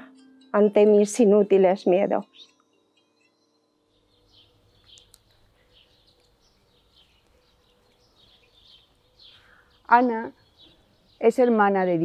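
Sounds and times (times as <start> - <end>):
faint bird chirps: 2.1 - 12.0.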